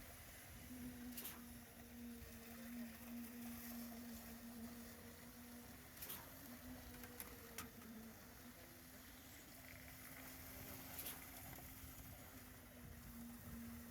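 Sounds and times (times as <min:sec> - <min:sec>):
faint engine hum: 0:00.0 - 0:13.9.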